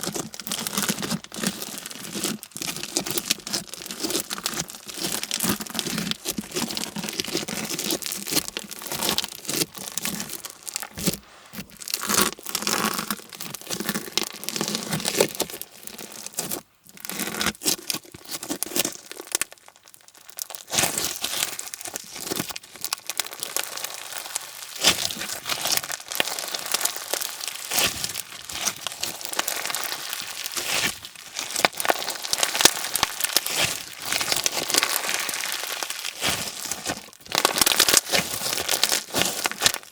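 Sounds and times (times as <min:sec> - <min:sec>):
slime crackling and popping: 0:00.0 - 0:39.9.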